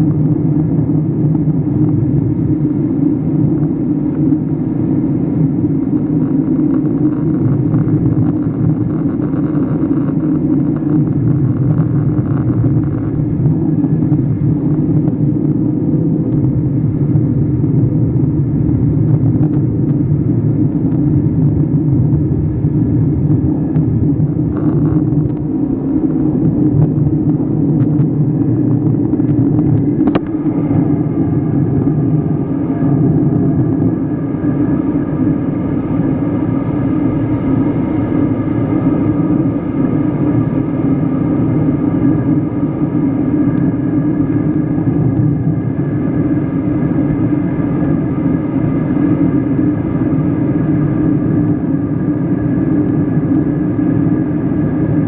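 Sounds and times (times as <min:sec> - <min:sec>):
airliner engine drone: 0:00.0 - 0:55.0
faint thin whine: 0:00.0 - 0:55.0.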